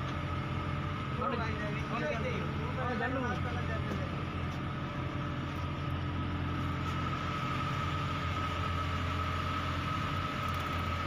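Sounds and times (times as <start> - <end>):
constant high whine: 0.0 - 11.0
engine idling drone: 0.0 - 11.0.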